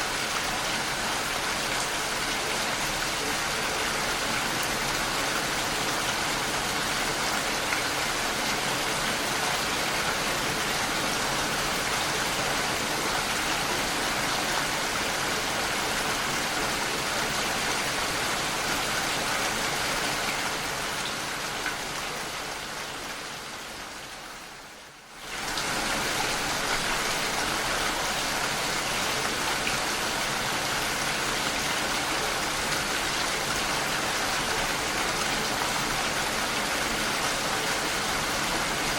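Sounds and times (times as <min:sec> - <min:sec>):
dense rainfall: 0:00.0 - 0:38.9.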